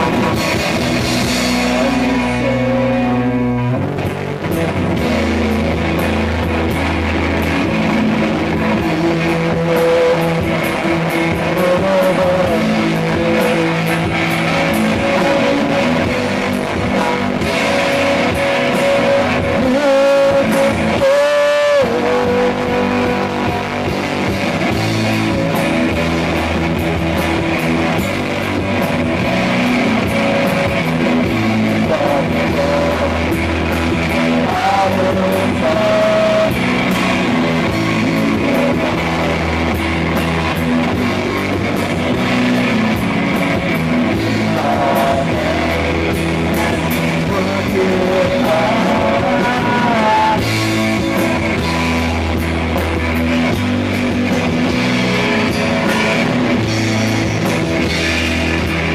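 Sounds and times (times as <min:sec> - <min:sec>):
man singing: 0:00.0 - 0:28.0, 0:28.8 - 0:52.5
drum kit with cymbals: 0:00.0 - 0:58.9
electric bass: 0:00.0 - 0:58.9
electric guitar: 0:00.0 - 0:58.9.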